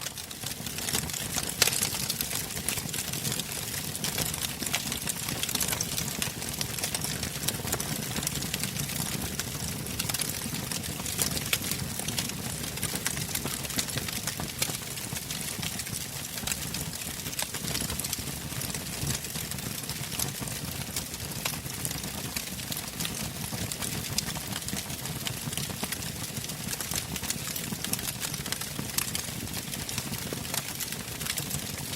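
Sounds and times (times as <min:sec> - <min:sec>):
fire crackling and popping: 0:00.0 - 0:31.9.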